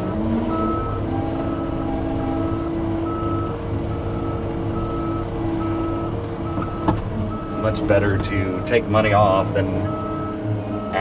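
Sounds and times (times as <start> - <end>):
diesel engine running: 0.0 - 11.0
backup alarm beeping: 0.1 - 11.0.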